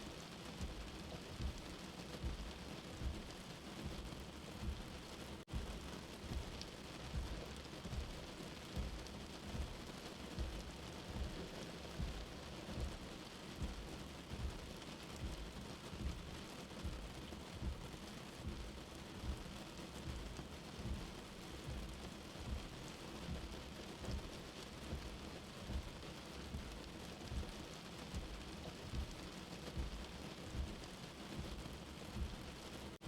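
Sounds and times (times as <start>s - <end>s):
rain pattering: 0.0s - 33.0s
soft heartbeat thumping: 0.5s - 33.0s.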